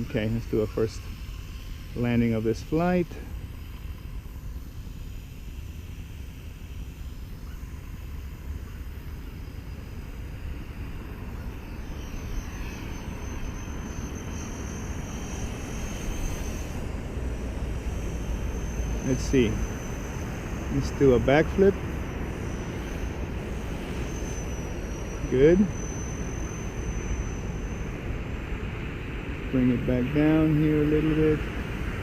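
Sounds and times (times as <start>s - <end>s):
rc helicopter rotors and motor: 0.0s - 32.0s
thin high whine: 0.0s - 32.0s.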